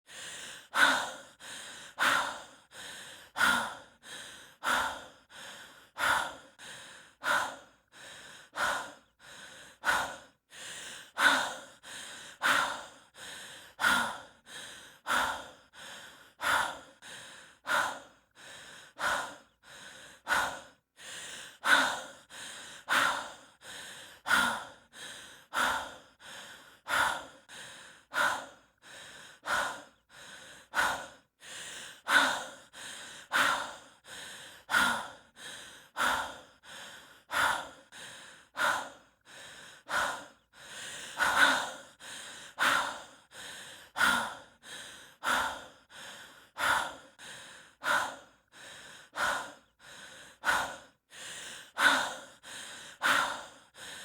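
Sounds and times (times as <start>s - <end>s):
person breathing heavily: 0.0s - 54.0s.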